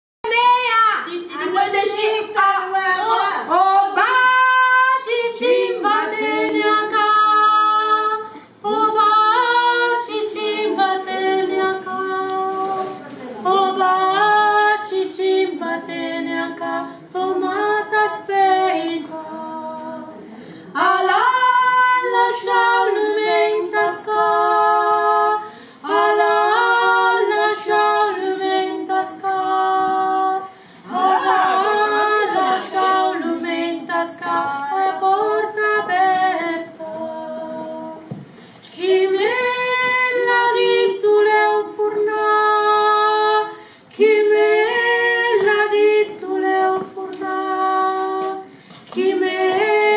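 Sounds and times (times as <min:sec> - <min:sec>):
women singing unaccompanied: 0:00.2 - 0:49.9.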